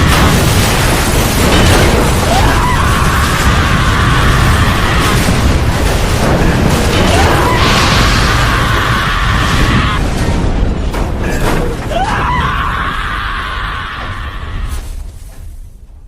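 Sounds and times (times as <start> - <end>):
loud rumbling din: 0.0 - 14.7.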